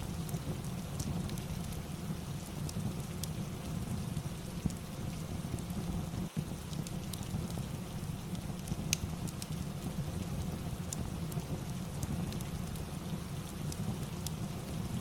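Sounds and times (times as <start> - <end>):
fireplace crackling and popping: 0.0 - 15.0
steady rain: 0.0 - 15.0.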